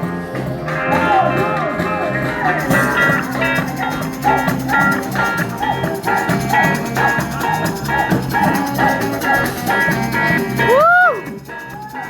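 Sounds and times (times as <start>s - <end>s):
bass line: 0.0s - 12.0s
drum beat: 0.5s - 12.0s.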